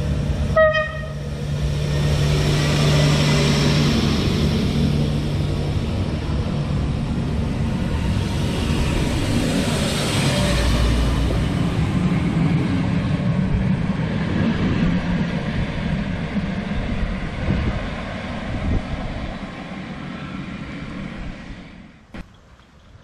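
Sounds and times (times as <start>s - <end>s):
diesel train pulling away: 0.0s - 22.2s.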